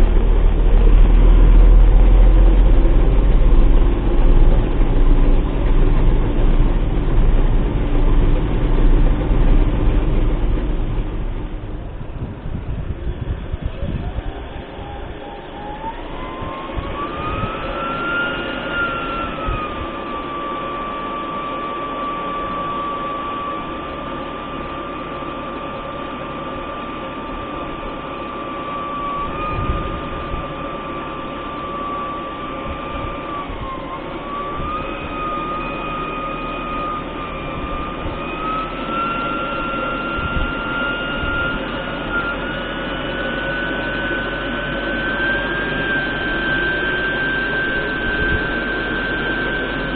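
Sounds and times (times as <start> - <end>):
high whine: 0.0 - 49.9
tractor diesel engine running: 0.0 - 49.9.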